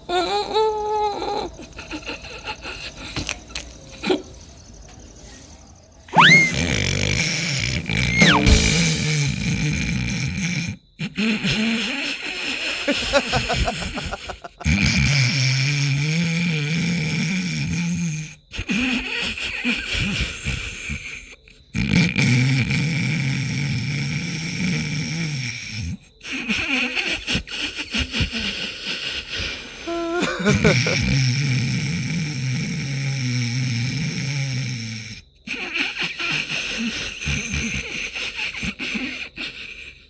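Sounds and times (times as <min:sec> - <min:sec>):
rough snorts: 0:06.1 - 0:13.0, 0:14.0 - 0:30.0, 0:30.6 - 0:40.0
person snoring: 0:06.1 - 0:40.0.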